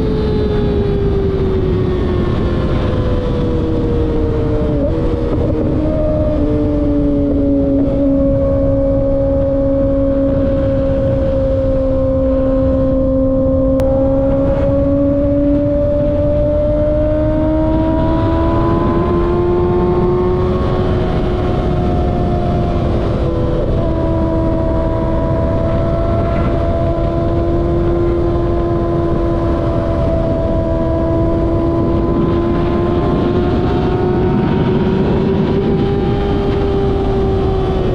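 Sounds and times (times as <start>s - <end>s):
motorcycle engine at speed: 0.0s - 37.9s
wind and road noise: 0.0s - 37.9s.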